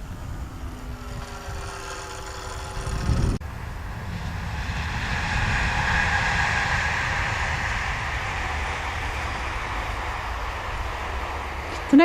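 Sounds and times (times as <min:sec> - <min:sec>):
train passing: 0:00.0 - 0:12.0.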